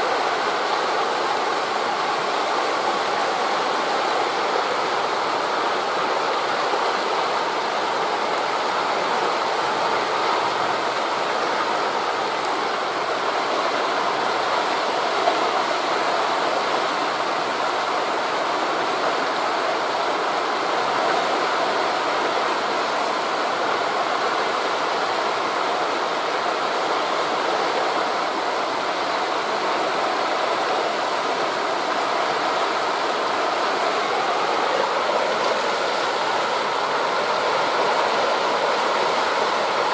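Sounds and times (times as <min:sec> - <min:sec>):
waves breaking on beach: 0:00.0 - 0:39.9
wind through leaves: 0:00.0 - 0:39.9.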